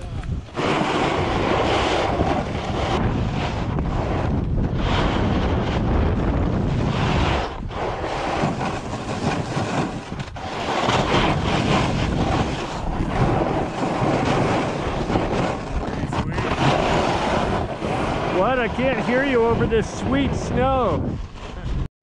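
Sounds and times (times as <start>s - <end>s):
board scraping over hard snow: 0.0s - 21.9s
wind on microphone: 0.0s - 21.9s.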